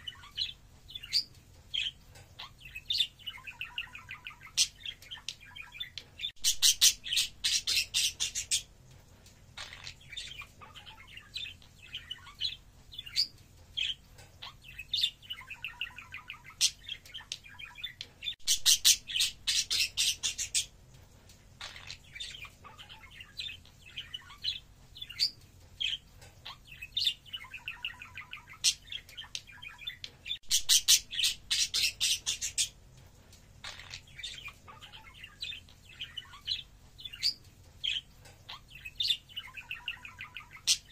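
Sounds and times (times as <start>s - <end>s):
budgerigar warbling and chirping: 0.0s - 8.7s, 9.6s - 20.7s, 21.6s - 32.8s, 33.6s - 40.9s.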